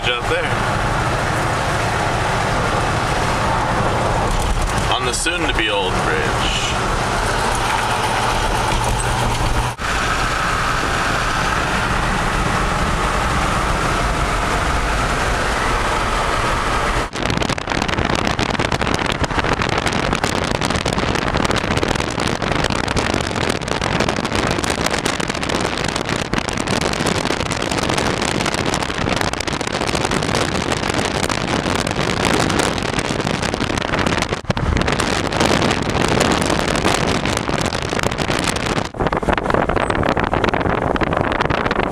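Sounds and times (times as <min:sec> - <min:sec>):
engine and tyre hum: 0:00.0 - 0:41.9
wind buffeting microphone: 0:00.0 - 0:41.9.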